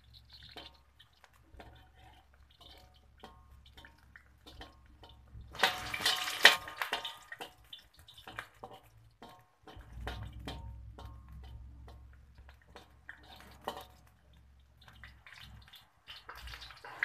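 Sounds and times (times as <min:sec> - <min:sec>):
garlic sizzling in hot oil: 0:00.0 - 0:17.0
metal spatula stirring: 0:00.0 - 0:17.0.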